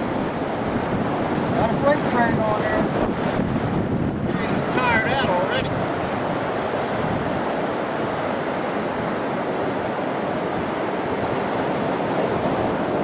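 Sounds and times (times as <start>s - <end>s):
ocean surf breaking: 0.0s - 13.0s
wind across microphone: 0.0s - 13.0s.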